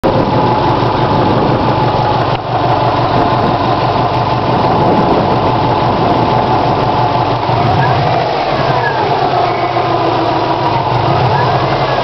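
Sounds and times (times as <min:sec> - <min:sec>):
car engine idling: 0:00.0 - 0:12.0
rapid engine knock: 0:00.0 - 0:12.0.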